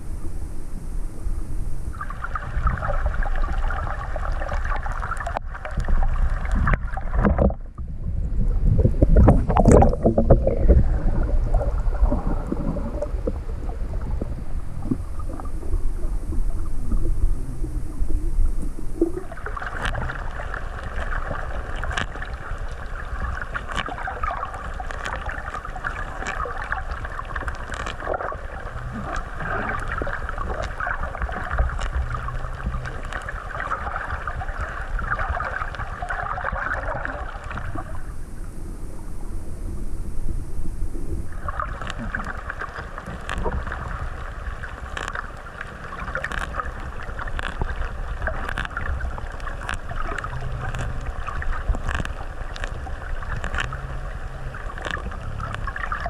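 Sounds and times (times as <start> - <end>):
crackling and tearing underwater: 0.0 - 56.0
low water rumble: 0.0 - 56.0.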